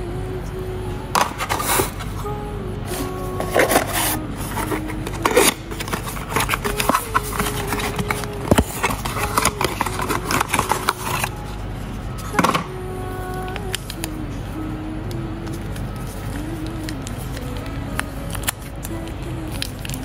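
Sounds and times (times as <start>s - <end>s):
background music simple melody: 0.0s - 20.0s.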